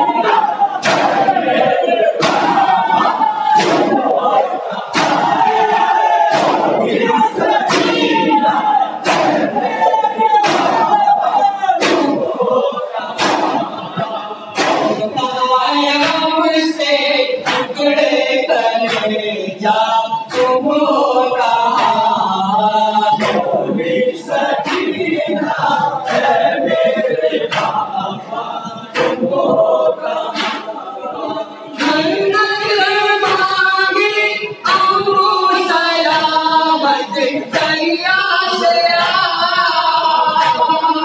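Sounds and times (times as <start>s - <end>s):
chorus of mourners: 0.0s - 41.0s
men chanting a lament: 0.0s - 41.0s
rhythmic sharp strikes: 0.0s - 41.0s.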